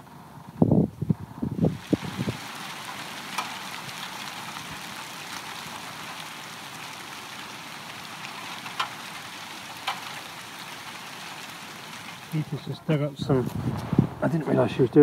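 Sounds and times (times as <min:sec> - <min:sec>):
hail falling on ground: 0:01.6 - 0:14.8.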